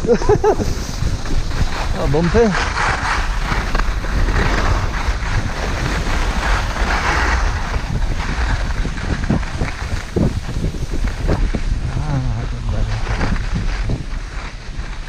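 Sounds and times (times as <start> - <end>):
skis scraping over snow: 0.0 - 15.0
wind rushing over microphone: 0.0 - 15.0.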